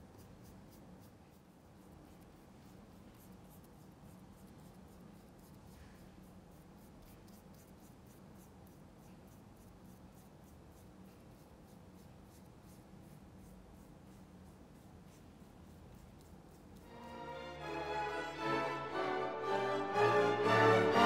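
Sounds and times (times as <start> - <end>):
paintbrush strokes on canvas: 0.0 - 17.3
low steady hum: 0.0 - 21.0.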